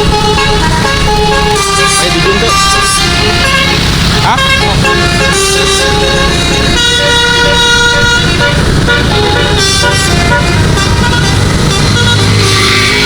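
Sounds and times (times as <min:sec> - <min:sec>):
bus musical air horn melody: 0:00.0 - 0:13.0.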